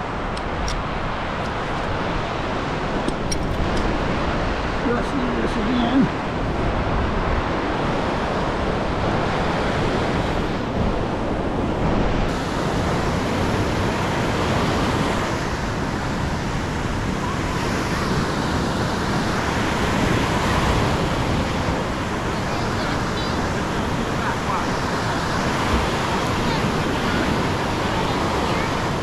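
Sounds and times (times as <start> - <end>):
surf breaking on beach: 0.0 - 29.0
wind on microphone: 0.0 - 29.0.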